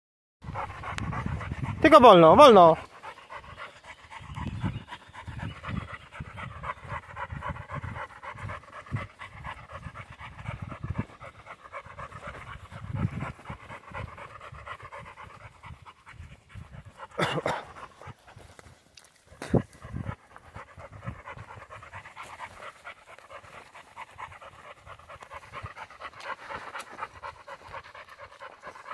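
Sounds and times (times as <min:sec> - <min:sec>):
dog panting: 0:00.4 - 0:28.9.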